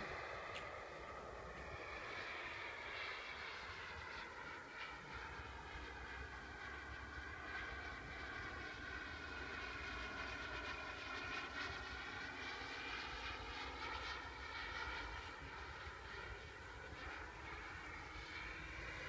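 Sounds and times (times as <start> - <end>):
model jet turbine whining: 0.0 - 19.0.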